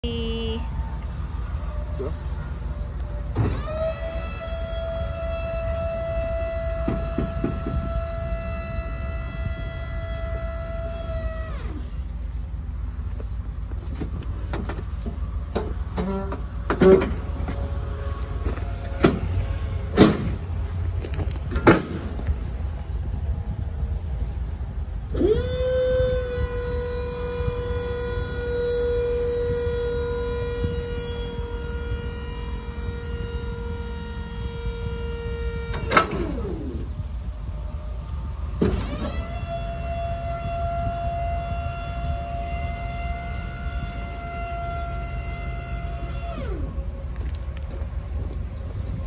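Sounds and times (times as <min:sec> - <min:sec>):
hydraulic pump motor whine: 0:00.0 - 0:49.0
steady low rumble: 0:00.0 - 0:49.0.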